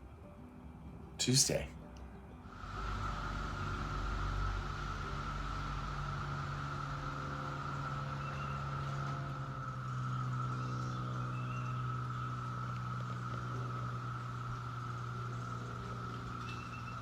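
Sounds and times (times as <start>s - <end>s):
cicadas droning: 2.5s - 17.0s
low motor hum: 2.5s - 17.0s.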